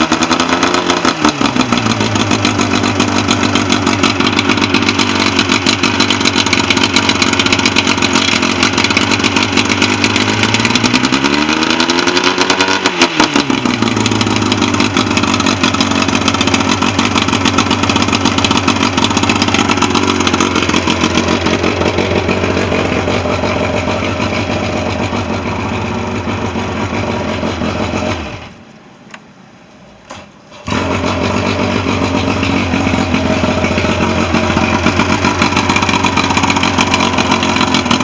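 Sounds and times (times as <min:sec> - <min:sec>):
outboard motor running: 0:00.0 - 0:28.6, 0:30.6 - 0:38.0.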